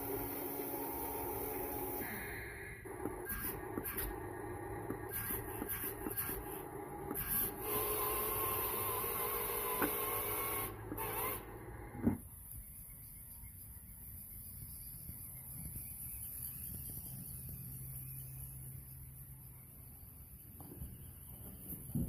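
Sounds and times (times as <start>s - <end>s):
toy motors and gears whining: 0.0s - 22.0s.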